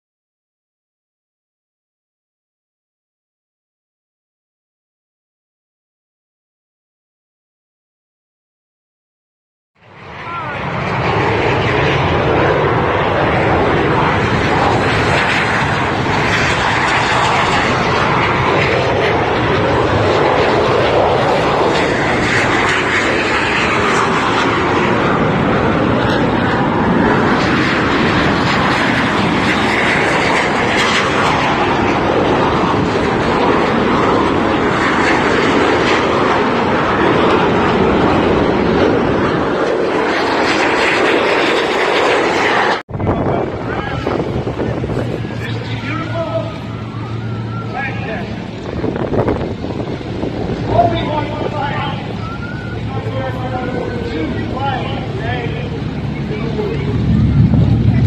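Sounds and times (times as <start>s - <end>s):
airplane engine running: 9.8s - 58.0s.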